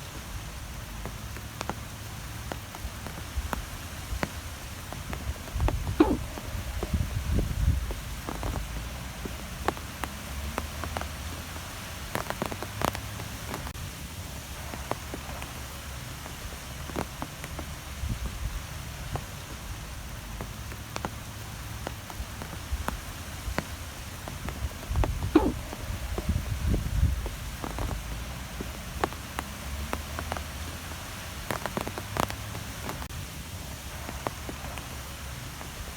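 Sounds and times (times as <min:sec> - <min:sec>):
short sharp ticks and patters: 0:00.0 - 0:14.0, 0:14.6 - 0:35.9
wind with low rumble: 0:00.0 - 0:35.9.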